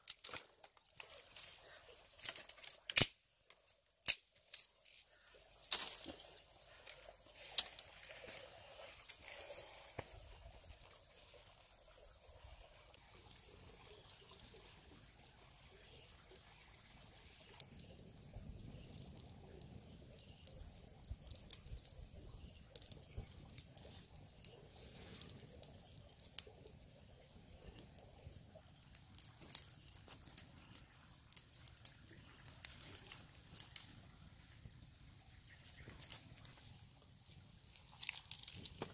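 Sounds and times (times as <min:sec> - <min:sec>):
campfire crackling: 0:00.0 - 0:38.9
fire stirred with a stick: 0:00.0 - 0:38.9.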